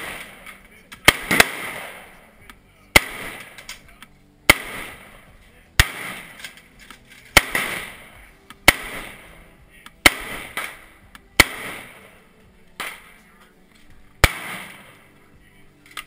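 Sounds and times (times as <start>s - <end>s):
rifle shots echoing: 0.0s - 15.2s.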